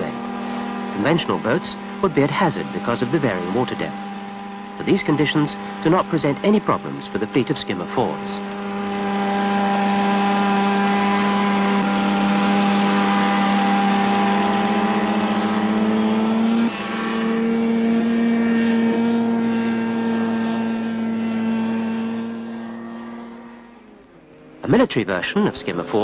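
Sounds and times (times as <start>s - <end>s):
hovercraft engine and propeller drone: 0.0s - 26.0s.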